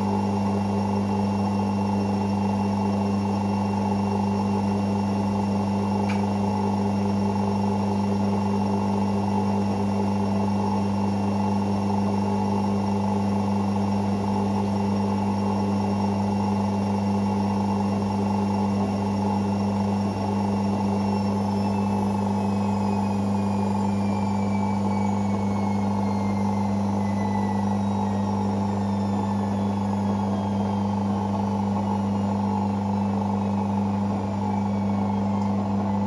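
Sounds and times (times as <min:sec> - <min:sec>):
washing machine humming: 0:00.0 - 0:36.0.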